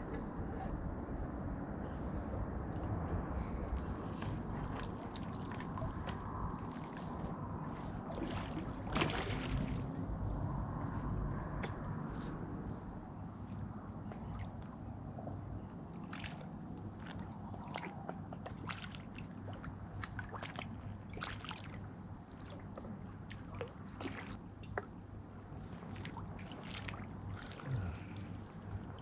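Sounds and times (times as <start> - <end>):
steady low hum: 0.0 - 29.0
water sloshing and splashing: 3.7 - 29.0.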